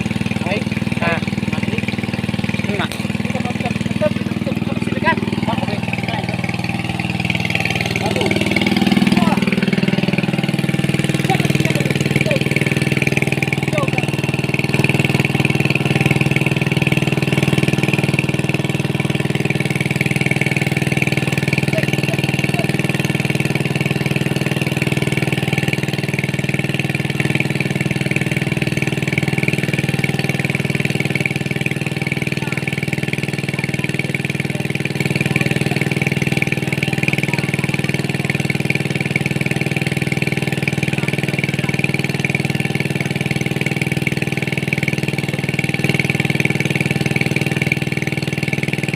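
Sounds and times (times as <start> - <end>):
small engine running steadily: 0.0 - 48.9.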